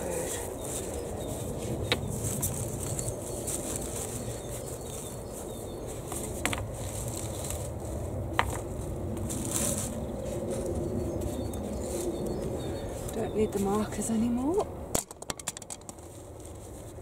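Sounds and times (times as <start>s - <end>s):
fleece rustling and crinkling: 0.0s - 13.1s, 15.9s - 17.0s.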